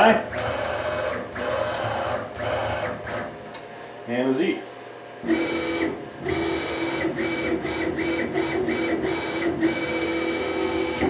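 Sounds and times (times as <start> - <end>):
motor whining: 0.0 - 3.4, 5.2 - 11.0.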